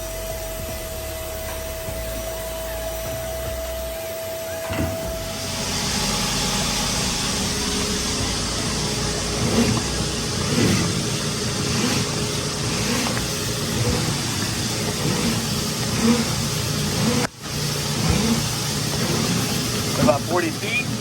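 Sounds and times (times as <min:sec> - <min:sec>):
motor drone: 0:00.0 - 0:21.0
rushing air hiss: 0:00.5 - 0:21.0.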